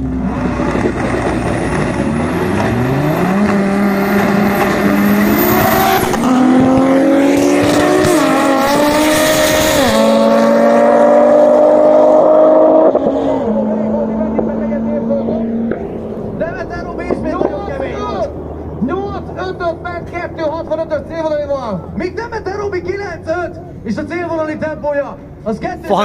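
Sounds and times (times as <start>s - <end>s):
drag car engines accelerating: 0.0s - 26.0s.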